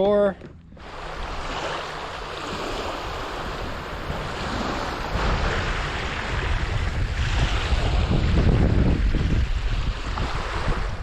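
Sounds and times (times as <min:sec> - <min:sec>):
waves splashing: 0:00.0 - 0:11.0
wind buffeting microphone: 0:00.6 - 0:11.0.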